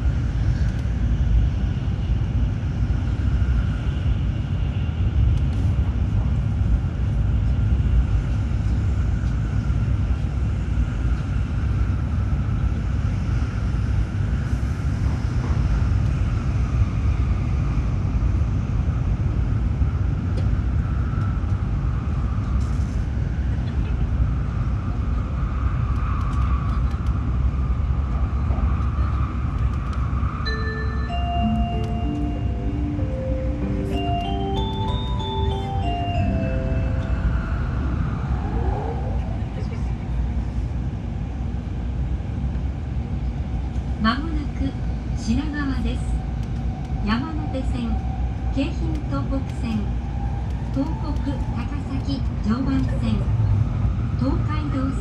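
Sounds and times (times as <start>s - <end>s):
train running inside passenger car: 0.0s - 55.0s.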